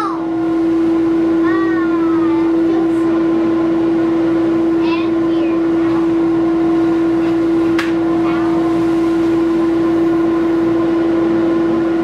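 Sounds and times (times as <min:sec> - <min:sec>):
dust collector humming: 0:00.0 - 0:12.0.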